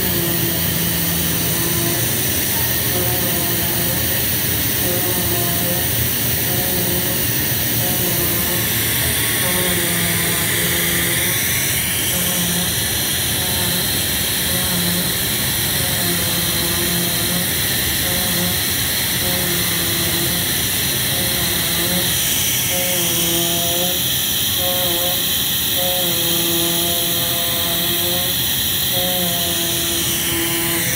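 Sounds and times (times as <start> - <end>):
cutting head whines: 0.0 - 30.9
cutting machine hiss: 0.0 - 30.9.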